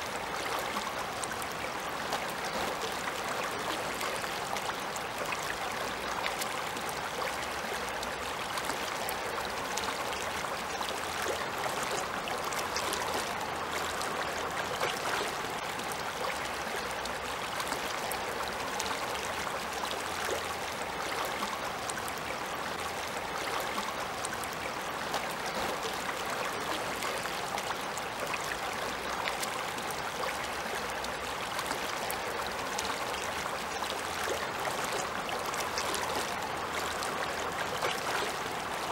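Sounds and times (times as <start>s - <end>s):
river babbling over stones: 0.0s - 38.9s.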